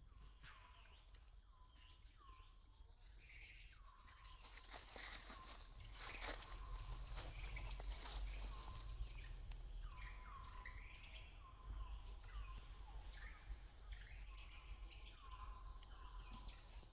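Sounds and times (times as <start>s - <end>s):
low outdoor hum: 0.0s - 16.9s.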